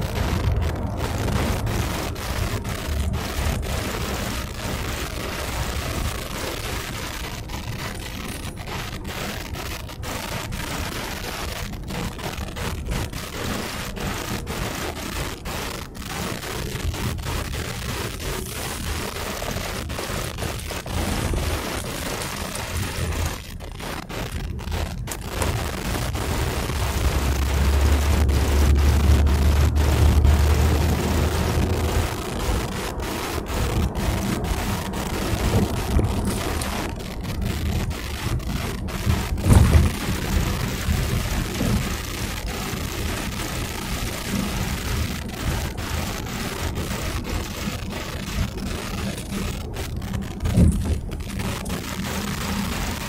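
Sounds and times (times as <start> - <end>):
car cabin road noise: 0.0 - 53.0.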